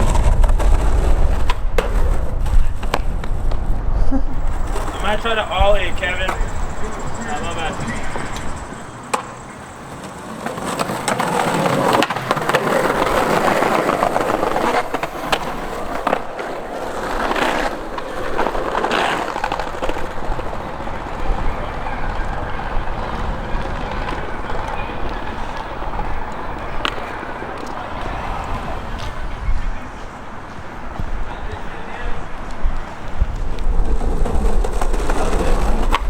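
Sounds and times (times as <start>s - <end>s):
skateboard clacks: 0.0s - 36.0s
skateboard wheels rolling on pavement: 0.0s - 36.0s.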